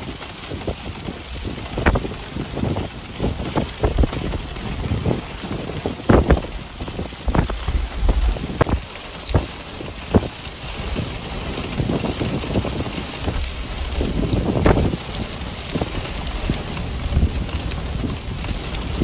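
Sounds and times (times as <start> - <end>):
heavy rain on stony ground: 0.0 - 19.0
wind buffeting microphone: 0.0 - 19.0.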